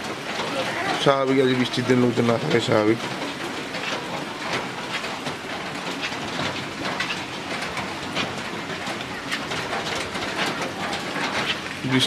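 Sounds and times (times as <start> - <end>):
heavy rain falling: 0.0 - 12.0
water drips and splashes: 0.0 - 12.0.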